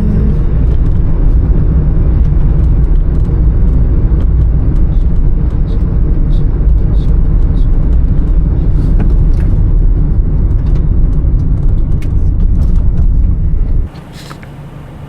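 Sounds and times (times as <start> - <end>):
car rumbling on the move: 0.0 - 15.0.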